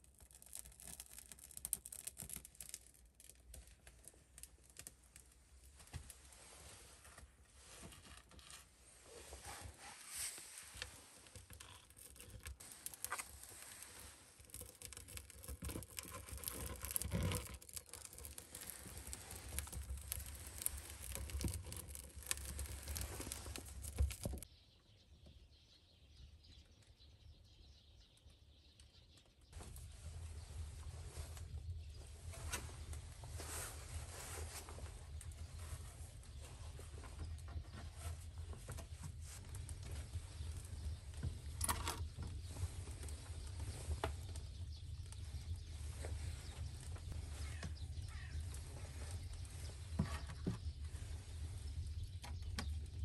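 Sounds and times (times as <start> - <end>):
kindling crackling and snapping: 0.0 - 24.5, 28.0 - 53.0
soft low background: 0.0 - 53.0.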